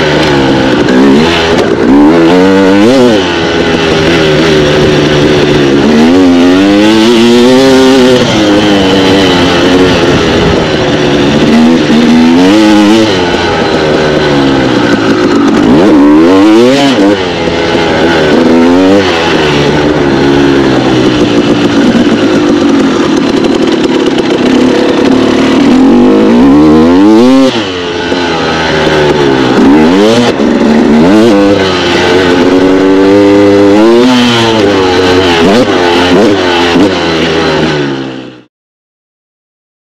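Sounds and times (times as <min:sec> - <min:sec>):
two-stroke motorcycle engine revving: 0:00.0 - 0:38.5.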